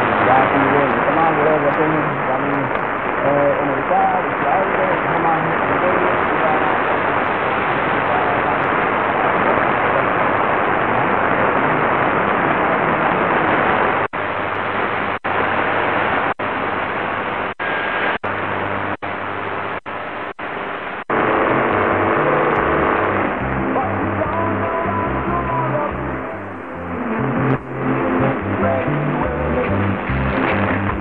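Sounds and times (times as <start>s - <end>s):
radio static hiss: 0.0s - 31.0s
radio station broadcast: 0.0s - 31.0s.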